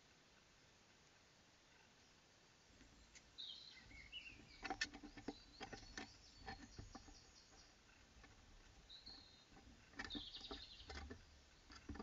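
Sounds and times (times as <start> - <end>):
garden birds singing: 0.0 - 12.0.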